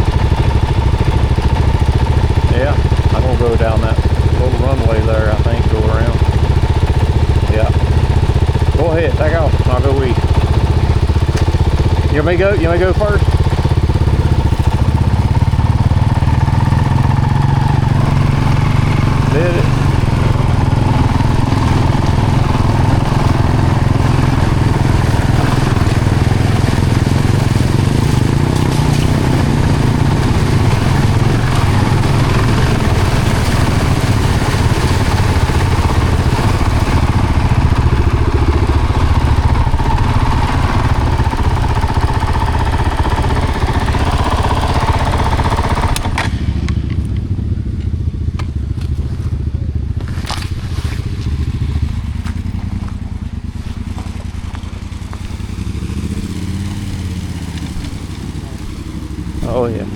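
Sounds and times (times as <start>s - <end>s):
road and wind noise: 0.0s - 59.9s
vehicle engine rumble: 0.0s - 59.9s.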